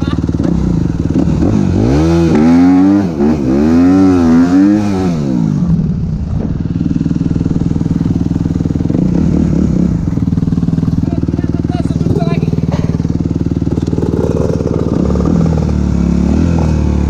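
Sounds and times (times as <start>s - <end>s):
motorcycle engine at full throttle: 0.0s - 17.0s.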